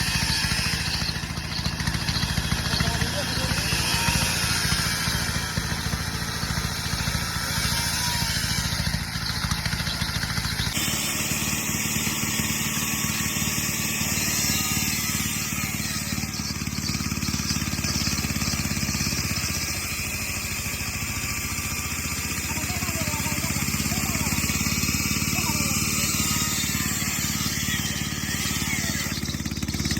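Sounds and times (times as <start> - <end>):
bandsaw mill engine humming: 0.0 - 29.9.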